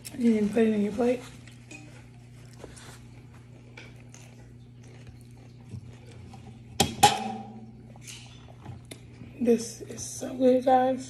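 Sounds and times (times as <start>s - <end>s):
chewing: 0.0s - 6.8s, 7.8s - 10.0s
steady low hum: 0.0s - 11.0s.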